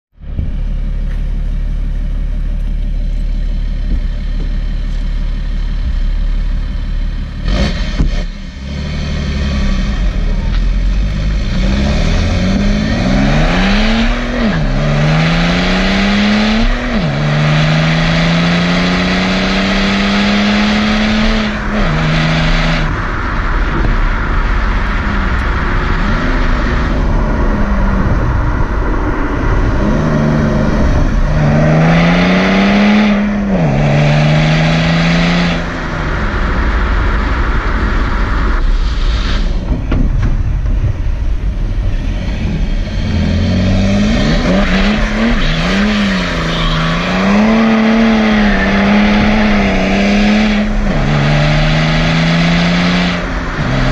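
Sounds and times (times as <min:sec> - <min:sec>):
diesel car exhaust revving: 0:00.1 - 0:53.9.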